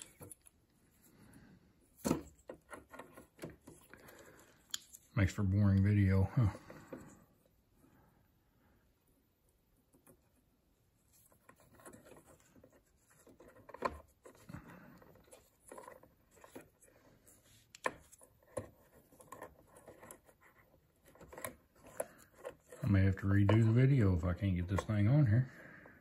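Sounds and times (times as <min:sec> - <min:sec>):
cables rubbing and rustling: 0:00.0 - 0:07.6, 0:09.4 - 0:26.0.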